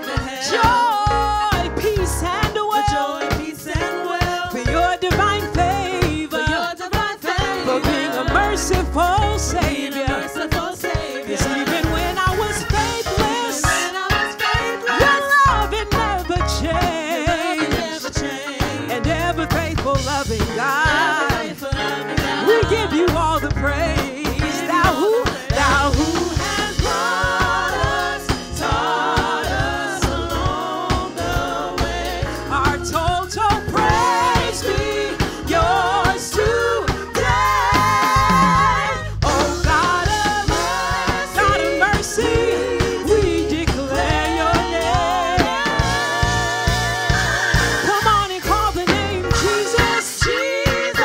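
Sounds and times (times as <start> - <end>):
instrumental backing with beat: 0.0 - 51.0
women singing gospel song: 0.0 - 51.0.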